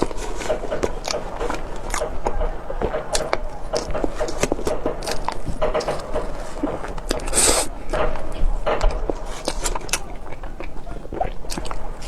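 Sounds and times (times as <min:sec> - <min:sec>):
cake being chewed: 0:00.0 - 0:12.0
mouth smacks and clicks: 0:00.0 - 0:12.0.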